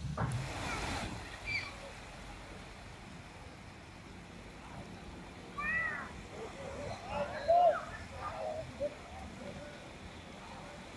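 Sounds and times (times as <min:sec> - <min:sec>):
shore wash: 0:00.0 - 0:10.9.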